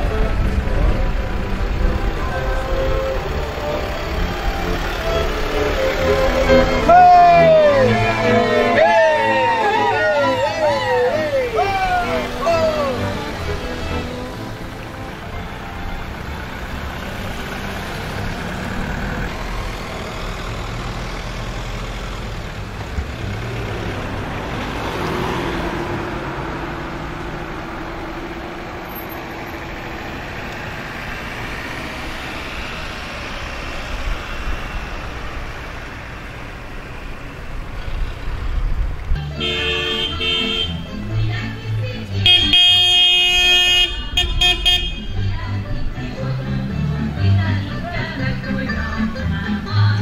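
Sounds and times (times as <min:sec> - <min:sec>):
cars driving past: 0:00.0 - 0:50.0.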